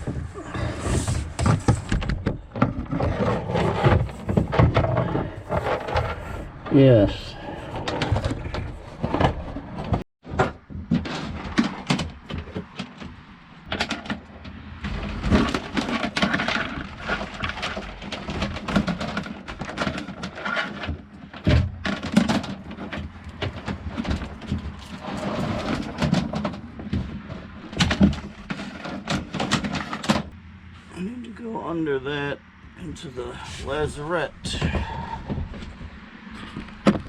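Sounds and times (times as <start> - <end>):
wire and tools knocking and scraping: 0.0 - 30.4.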